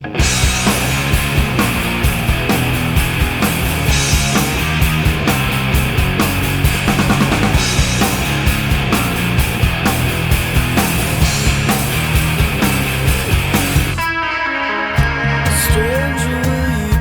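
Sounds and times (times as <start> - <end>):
steady drum beat: 0.0 - 14.2, 15.0 - 17.0
rock band playing: 0.0 - 17.0.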